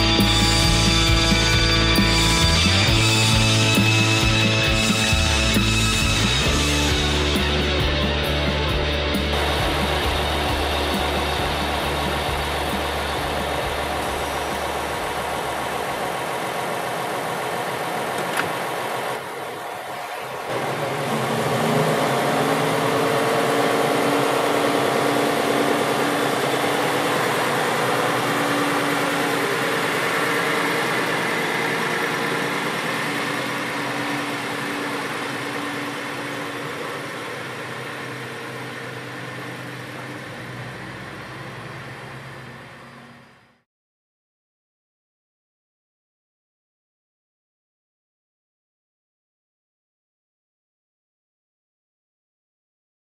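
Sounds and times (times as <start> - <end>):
diesel railcar engine idling: 0.0 - 43.6.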